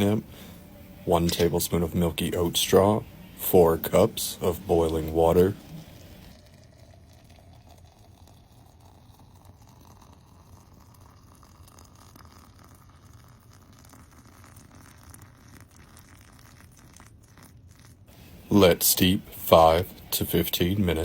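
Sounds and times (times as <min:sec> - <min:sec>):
water pouring into a pot: 0:00.0 - 0:21.0.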